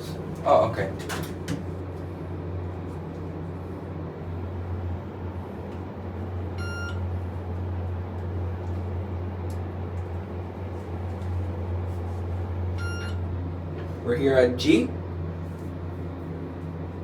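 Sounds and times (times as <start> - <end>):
elevator hum: 0.0 - 17.0.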